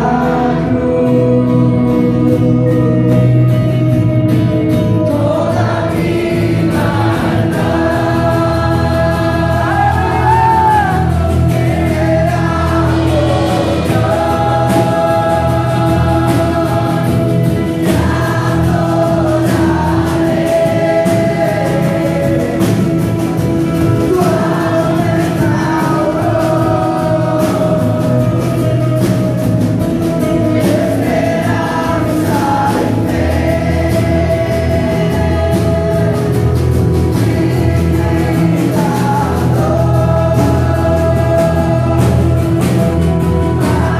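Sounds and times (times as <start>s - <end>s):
group singing worship song: 0.0s - 43.9s
instrumental accompaniment: 0.0s - 43.9s
steady drum beat: 0.0s - 43.9s.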